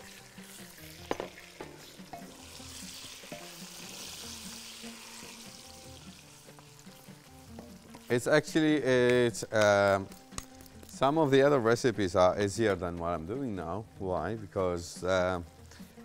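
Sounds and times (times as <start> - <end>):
meat sizzling in a pot: 0.0 - 16.0.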